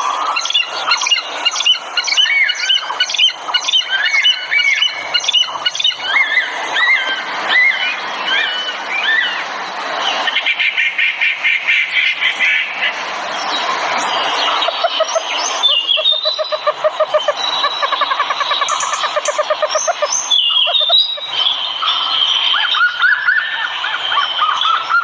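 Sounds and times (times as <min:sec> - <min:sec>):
songbirds singing: 0:00.0 - 0:25.0.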